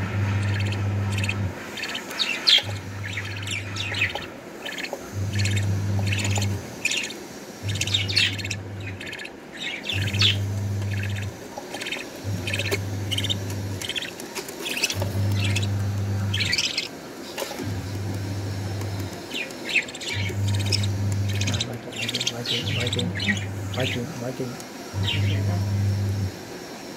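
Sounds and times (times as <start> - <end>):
low hum: 0.0 - 14.2, 14.9 - 16.9, 17.6 - 24.2, 24.9 - 26.4
budgerigars chirping and squawking: 0.0 - 26.3.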